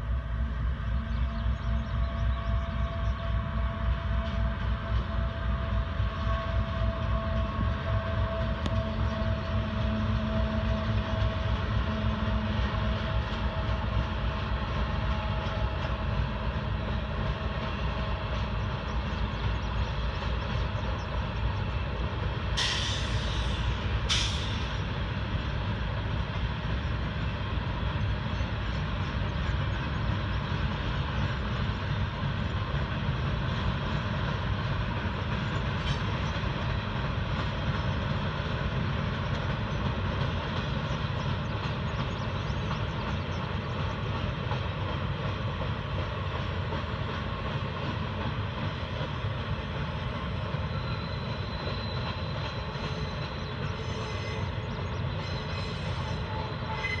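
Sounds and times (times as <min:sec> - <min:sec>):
diesel locomotive running: 0:00.0 - 0:57.0
freight cars rumbling on rails: 0:00.0 - 0:57.0.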